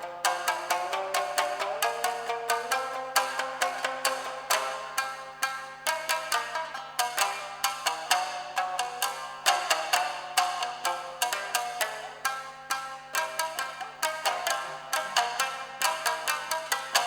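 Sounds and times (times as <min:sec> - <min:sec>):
shamisen ensemble playing: 0:00.0 - 0:17.0.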